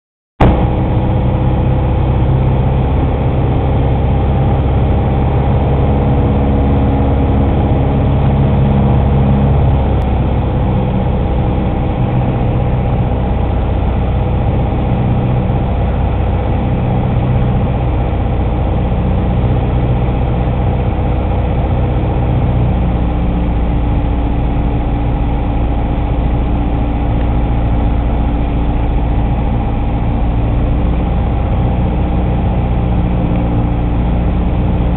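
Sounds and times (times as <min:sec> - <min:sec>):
airplane engine droning in cabin: 0:00.4 - 0:34.9.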